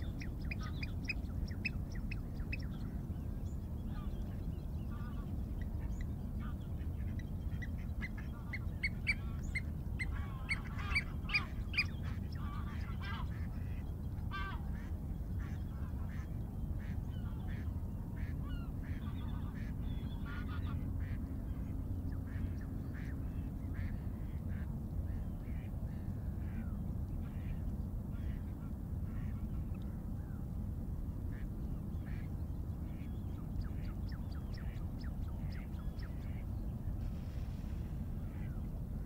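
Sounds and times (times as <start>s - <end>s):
low forest rumble: 0.0s - 39.0s.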